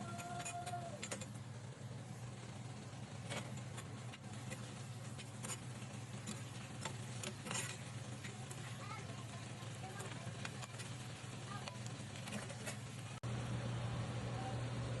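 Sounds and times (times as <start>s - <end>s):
air purifier hum: 0.0s - 15.0s.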